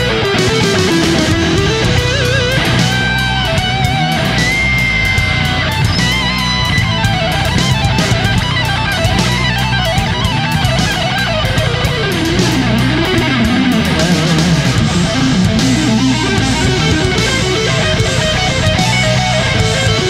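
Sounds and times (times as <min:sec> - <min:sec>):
electric guitar lead line: 0:00.0 - 0:20.0
steady drum beat: 0:00.0 - 0:20.0.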